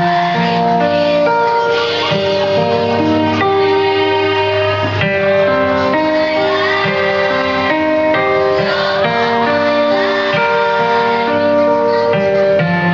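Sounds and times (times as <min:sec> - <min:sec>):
children's choir singing: 0:00.0 - 0:12.9
guitar accompaniment: 0:00.0 - 0:12.9.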